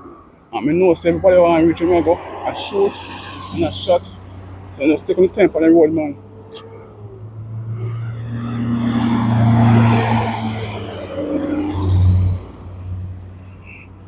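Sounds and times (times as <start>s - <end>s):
vehicles passing close by: 0.0s - 14.0s.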